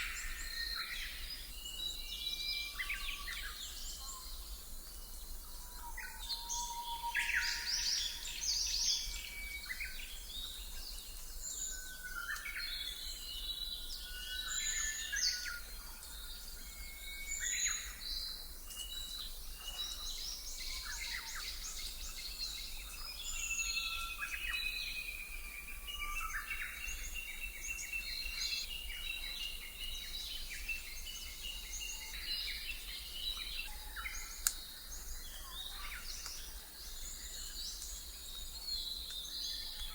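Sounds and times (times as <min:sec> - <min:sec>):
birds chirping and singing: 0:05.7 - 0:39.9.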